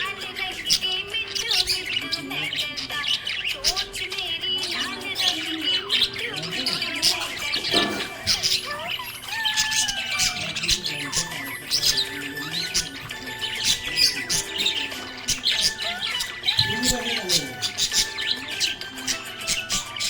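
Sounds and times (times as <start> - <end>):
budgerigars chirping and squawking: 0.0 - 20.0.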